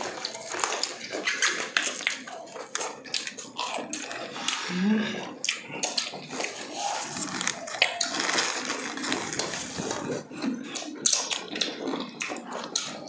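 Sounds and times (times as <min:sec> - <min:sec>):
crunching fried chicken: 0:00.0 - 0:13.0.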